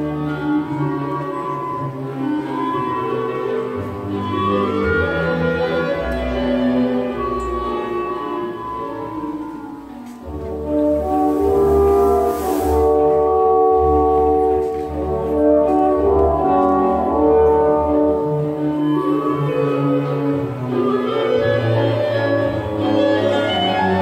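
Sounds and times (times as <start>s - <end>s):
orchestral music with brass: 0.0s - 24.0s.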